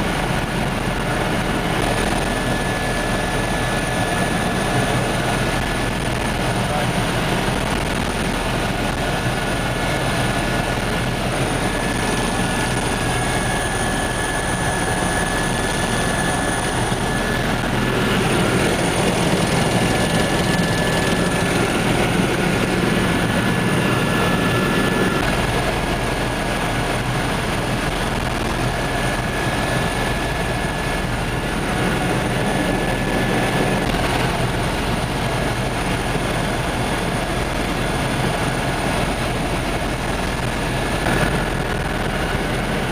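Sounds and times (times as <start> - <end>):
high whine: 0.0 - 36.5
helicopter rotor and engine drone: 0.0 - 42.9.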